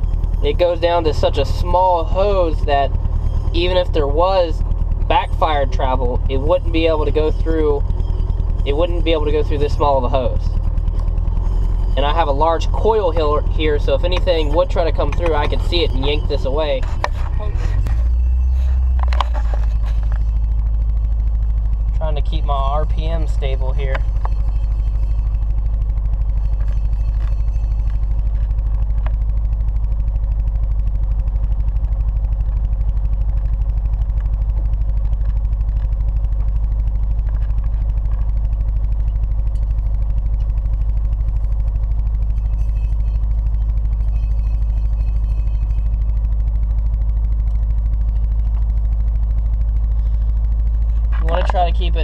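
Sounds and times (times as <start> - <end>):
car engine at raised idle: 0.0 - 52.0.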